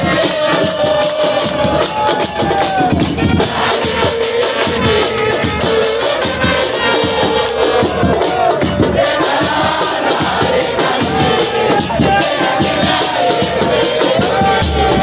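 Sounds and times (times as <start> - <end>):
bass drums beating: 0.0 - 15.0
football supporters chanting: 0.0 - 15.0.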